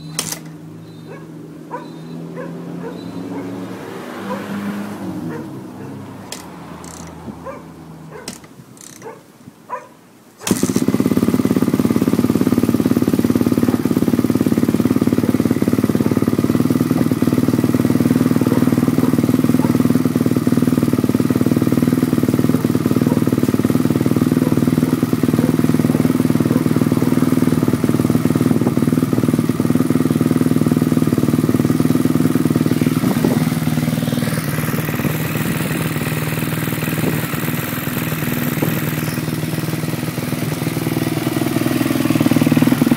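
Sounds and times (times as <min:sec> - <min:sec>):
motorcycle engine starting and idling: 0:00.0 - 0:42.9.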